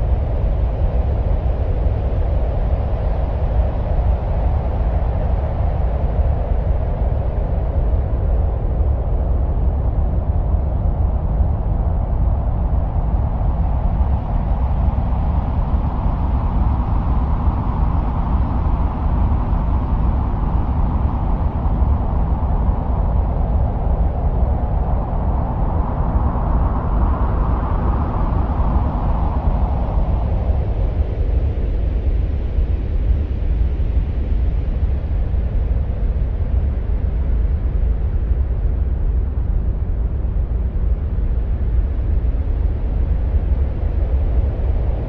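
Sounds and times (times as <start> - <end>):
wind-like rushing noise: 0.0 - 45.0.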